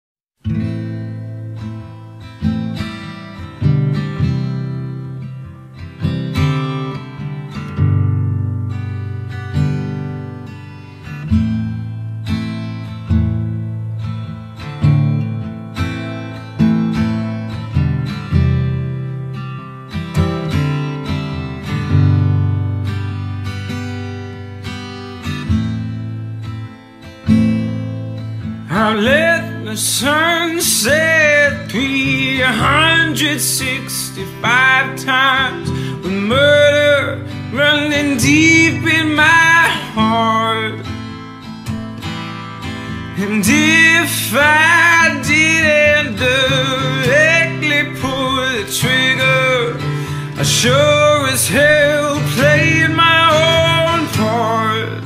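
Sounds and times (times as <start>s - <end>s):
acoustic guitar strumming chords: 0.4s - 55.0s.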